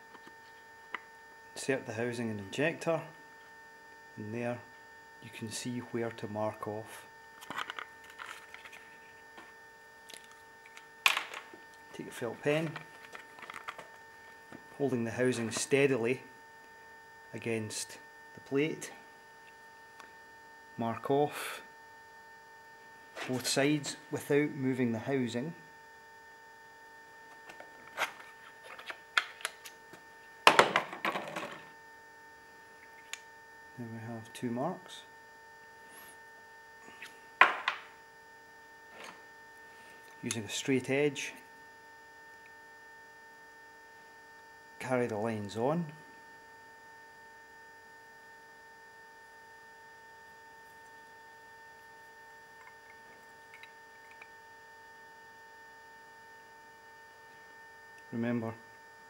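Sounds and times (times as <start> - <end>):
mains hum: 0.0 - 59.0.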